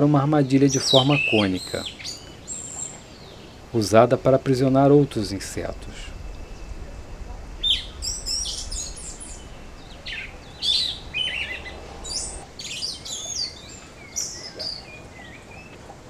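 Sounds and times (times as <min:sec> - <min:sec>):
birds chirping and singing: 0:00.0 - 0:15.8
low hum: 0:01.7 - 0:15.2.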